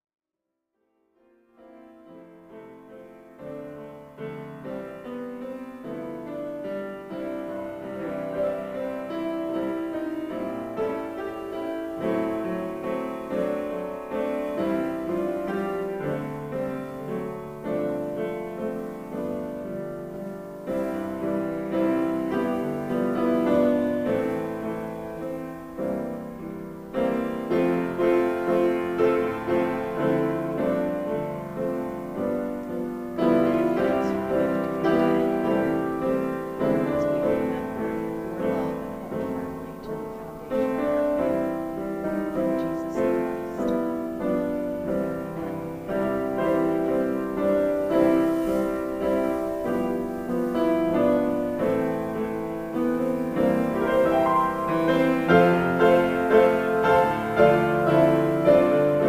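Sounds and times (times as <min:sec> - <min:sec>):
piano music: 0:01.2 - 0:59.0.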